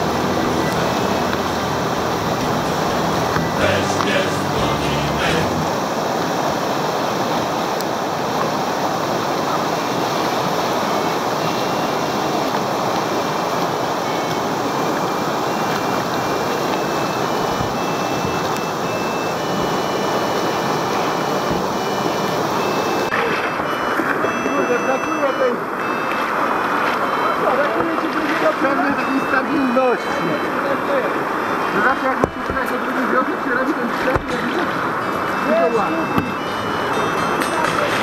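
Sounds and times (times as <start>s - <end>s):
whitewater rushing: 0.0s - 38.0s.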